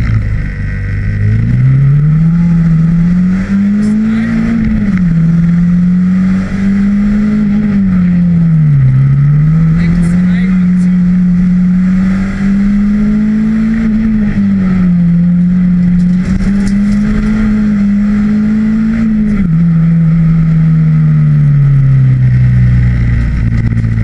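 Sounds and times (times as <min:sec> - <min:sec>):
car engine driven hard: 0:00.0 - 0:24.0.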